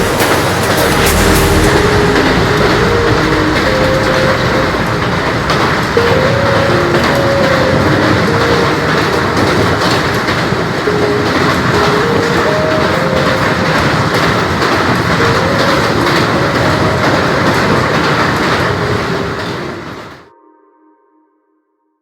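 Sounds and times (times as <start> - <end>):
train rushing along track: 0.0 - 20.3.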